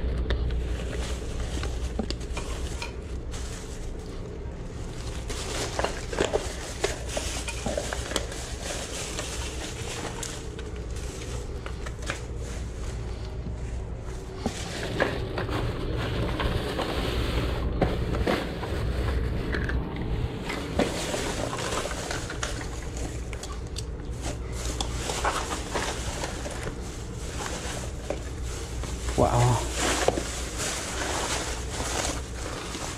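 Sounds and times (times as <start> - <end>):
packaged items clattering: 0.0 - 32.9
plastic bags rustling: 0.0 - 32.9
steady low hum: 0.0 - 32.9.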